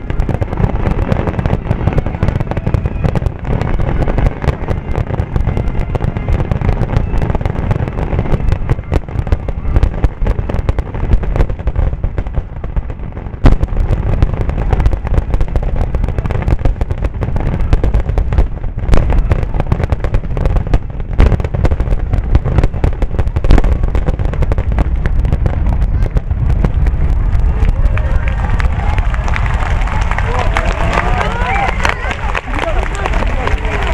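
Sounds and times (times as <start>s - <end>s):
fireworks booming: 0.0s - 33.9s
loud firework bangs: 0.0s - 33.9s.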